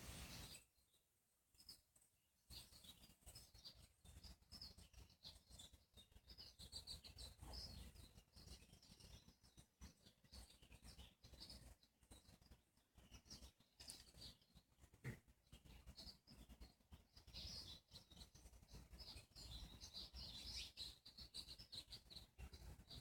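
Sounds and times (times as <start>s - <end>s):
birds chirping: 0.0s - 0.7s, 2.5s - 23.0s.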